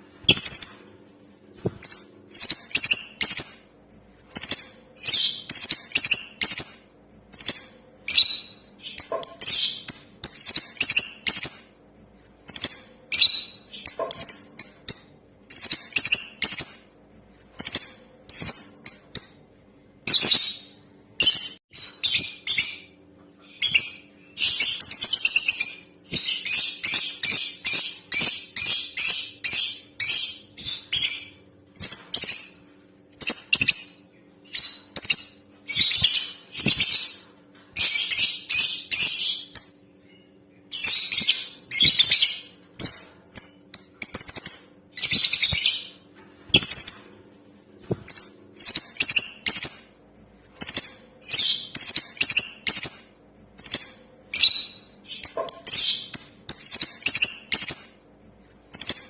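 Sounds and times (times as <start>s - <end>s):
lovebird chirping: 0.2s - 1.0s, 1.7s - 3.8s, 4.4s - 11.9s, 12.5s - 17.0s, 17.6s - 47.3s, 48.1s - 58.1s.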